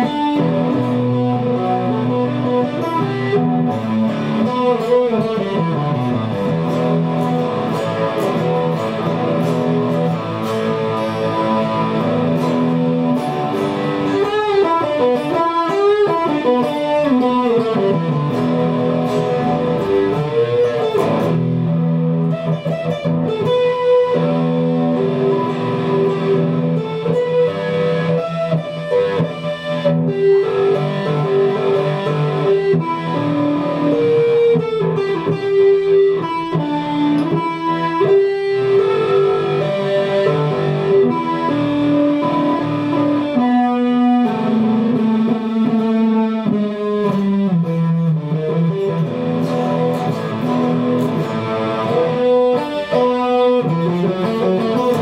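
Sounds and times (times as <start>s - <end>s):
guitar music: 0.0s - 55.0s.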